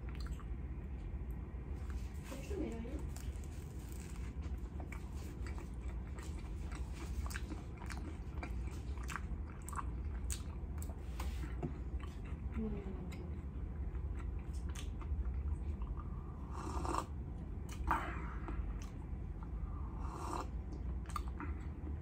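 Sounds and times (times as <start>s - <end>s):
wet chewing with clicks: 0.0s - 2.0s, 3.0s - 16.2s, 16.9s - 19.6s, 20.3s - 22.0s
steady low hum: 0.0s - 22.0s.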